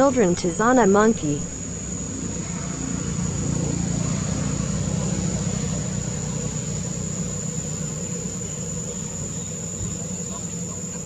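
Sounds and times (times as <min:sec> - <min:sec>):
engine idling: 0:00.0 - 0:11.0
high-pitched insect whine: 0:00.0 - 0:11.0.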